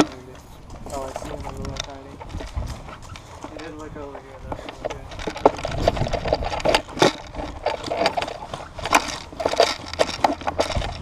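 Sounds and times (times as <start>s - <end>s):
footsteps on dry dirt: 0.0s - 11.0s.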